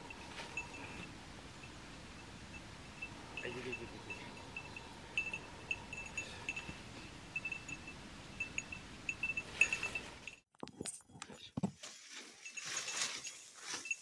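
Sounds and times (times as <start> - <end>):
small bell jingling: 0.0 - 10.4, 12.1 - 14.0.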